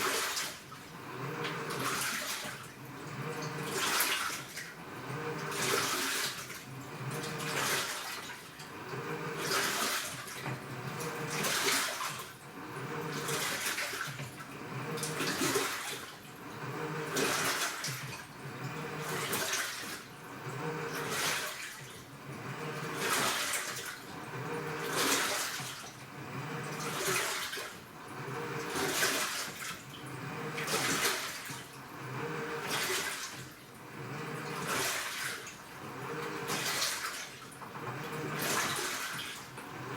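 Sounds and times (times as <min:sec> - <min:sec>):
motor humming: 0:00.0 - 0:08.0, 0:08.6 - 0:39.9
water sloshing in washing machine: 0:00.0 - 0:39.9.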